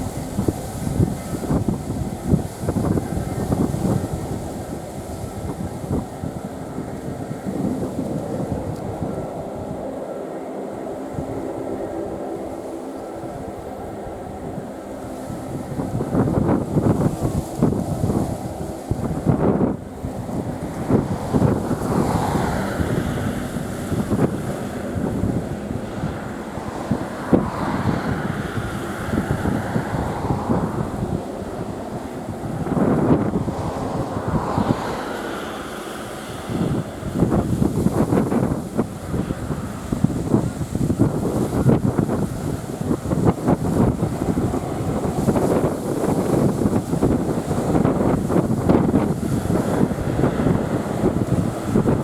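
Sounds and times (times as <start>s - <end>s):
turboprop engines droning: 0.0s - 52.0s
wind buffeting microphone: 0.0s - 52.0s.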